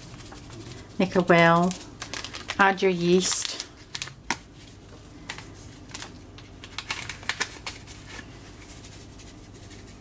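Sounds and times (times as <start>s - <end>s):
plastic gloves crinkling: 0.0s - 10.0s
yeast sachet crinkling: 0.1s - 4.5s, 5.2s - 9.2s.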